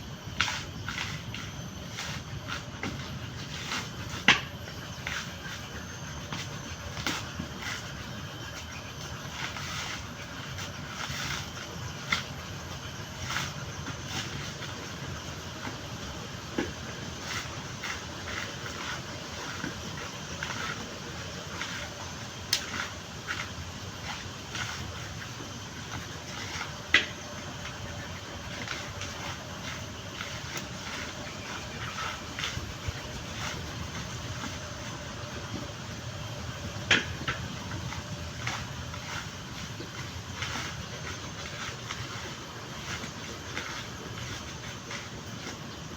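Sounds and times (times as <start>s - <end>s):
coconut husk knocks and scraping: 0.3s - 45.9s.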